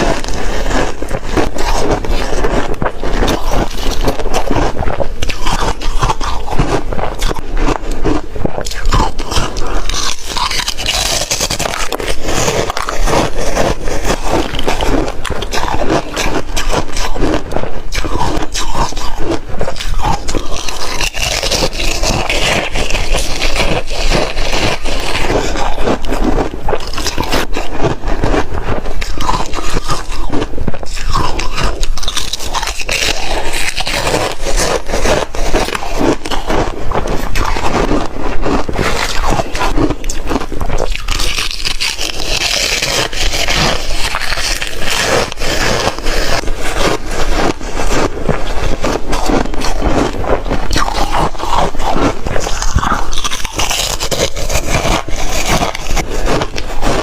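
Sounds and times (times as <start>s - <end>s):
ice being chewed: 0.0s - 57.0s.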